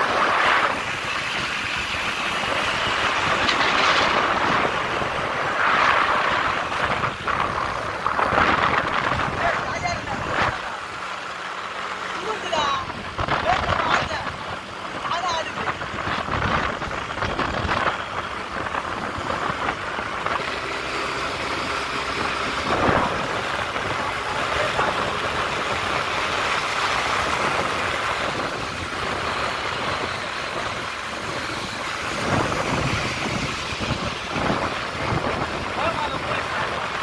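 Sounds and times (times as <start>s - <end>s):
engine running at speed: 0.0s - 37.0s
motorcycle running nearby: 0.0s - 37.0s
wind and road rush: 0.0s - 37.0s.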